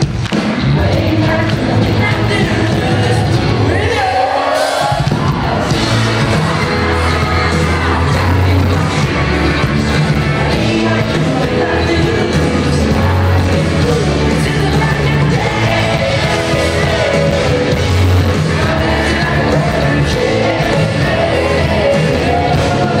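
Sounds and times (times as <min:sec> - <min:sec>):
crowd yelling: 0:00.0 - 0:23.0
pop-rock band playing live: 0:00.0 - 0:23.0.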